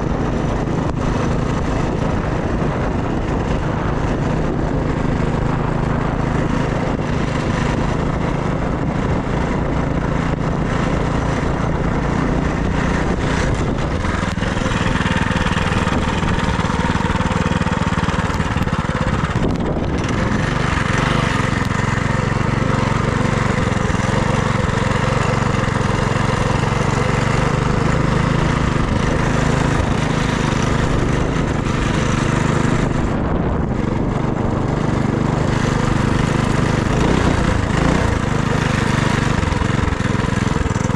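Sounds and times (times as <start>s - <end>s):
small engine running: 0.0s - 40.9s
wind noise rushing: 0.0s - 40.9s.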